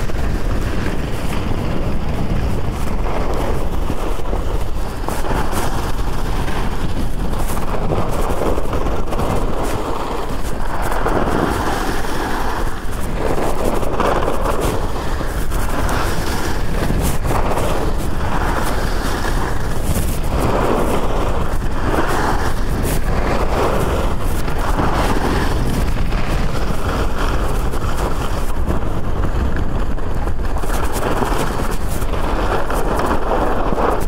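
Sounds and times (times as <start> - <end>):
skis scraping on icy snow: 0.0 - 34.0
wind rumble on microphone: 0.0 - 34.0.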